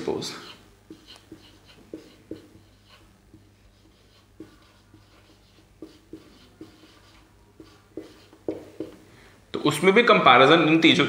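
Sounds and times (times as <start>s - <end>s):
marker writing on whiteboard: 0.0s - 9.0s.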